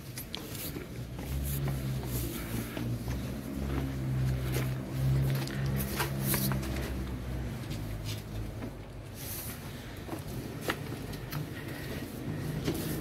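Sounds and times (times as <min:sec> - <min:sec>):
footsteps on stone stairs: 0:00.0 - 0:13.0.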